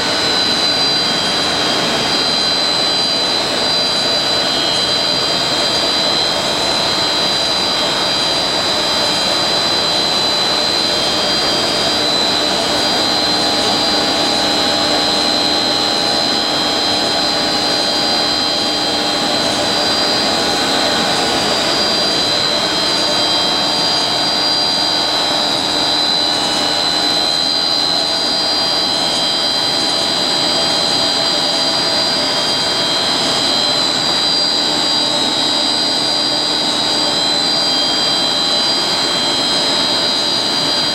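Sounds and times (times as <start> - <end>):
high steady machine whines: 0.0 - 40.9
industrial machine running: 0.0 - 40.9.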